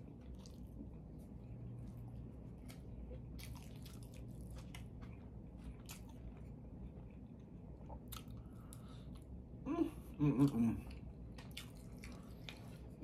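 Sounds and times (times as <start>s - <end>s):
person chewing with crunches: 0.0s - 9.4s, 10.4s - 13.0s.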